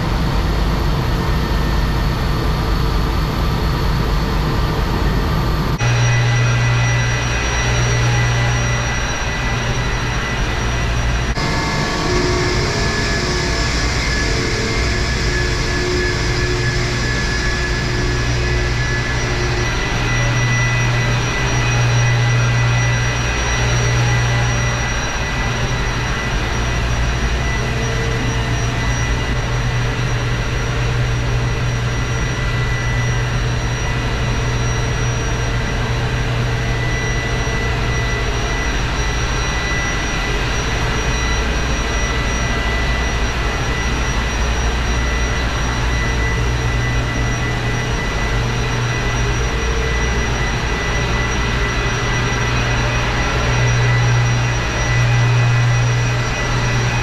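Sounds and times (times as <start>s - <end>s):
machinery deep hum: 0.0s - 57.0s
thin high machine whines: 5.8s - 57.0s.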